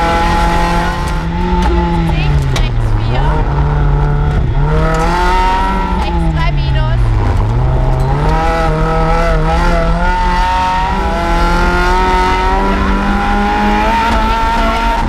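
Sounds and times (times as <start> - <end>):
car engine accelerating hard: 0.0 - 15.0
road noise: 0.0 - 15.0.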